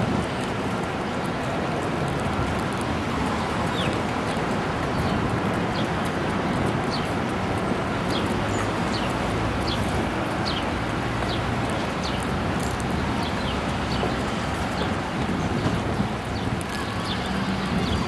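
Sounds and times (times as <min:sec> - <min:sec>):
urban street noise: 0:00.0 - 0:18.0.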